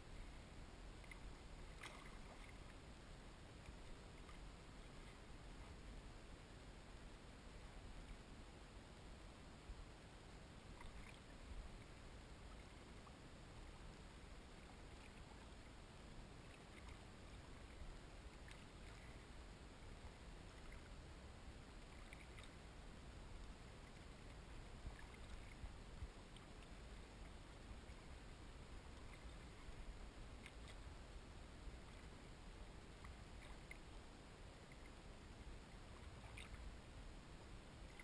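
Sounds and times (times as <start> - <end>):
water drips and small splashes: 0.2 - 6.3, 10.6 - 38.0.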